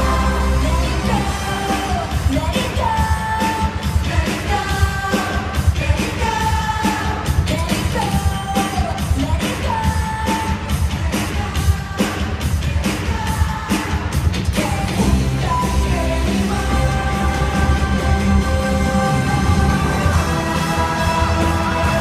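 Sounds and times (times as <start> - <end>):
pop song over loudspeakers: 0.0 - 22.0.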